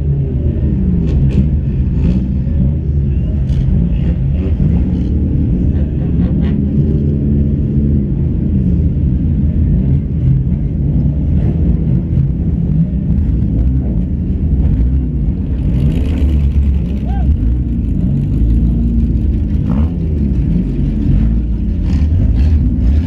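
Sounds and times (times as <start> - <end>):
race car engine under load: 0.2 - 23.0.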